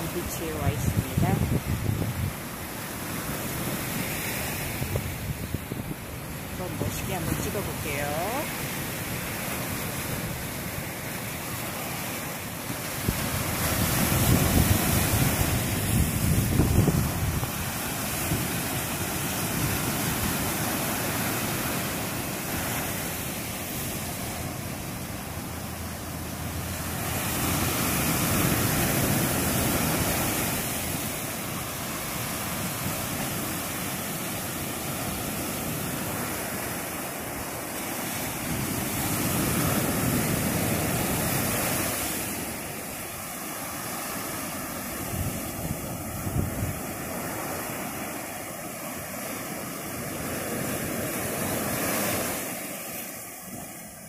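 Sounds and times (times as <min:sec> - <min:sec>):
waves breaking on beach: 0:00.0 - 0:54.0.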